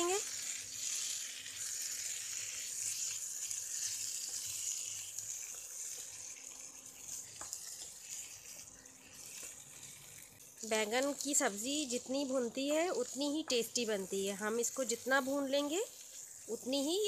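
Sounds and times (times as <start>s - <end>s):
food sizzling in oil: 0.0s - 17.0s
wooden spatula stirring and mashing: 0.0s - 17.0s.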